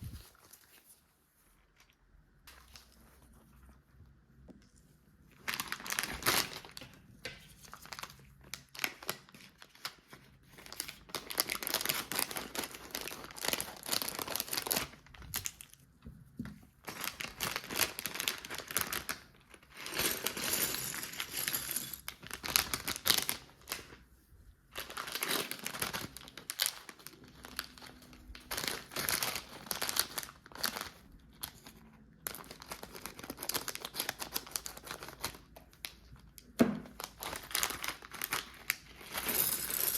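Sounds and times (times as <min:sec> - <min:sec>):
plastic bags crinkling: 0:05.3 - 0:15.9, 0:16.8 - 0:24.0, 0:24.7 - 0:39.9.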